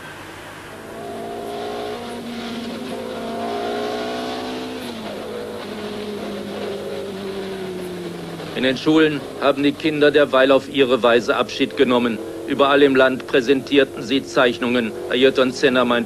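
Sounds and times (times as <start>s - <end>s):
racing car engine: 0.0s - 16.0s.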